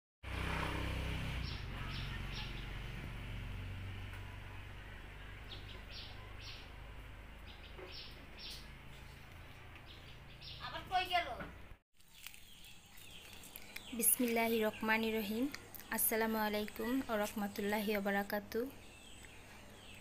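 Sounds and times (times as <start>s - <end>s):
birds chirping: 1.2s - 3.2s, 4.2s - 20.0s.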